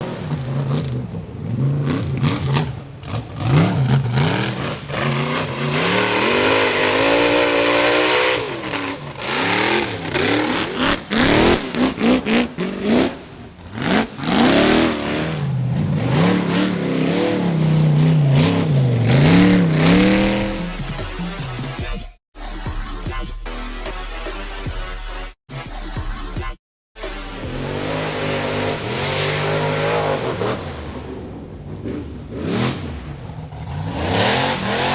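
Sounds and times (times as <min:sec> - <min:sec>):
buggy engines revving hard: 0:00.0 - 0:21.8, 0:27.0 - 0:34.9.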